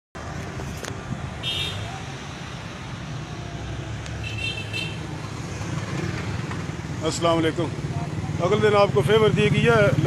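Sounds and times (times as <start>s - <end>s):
vehicle engines running: 0.2s - 10.0s.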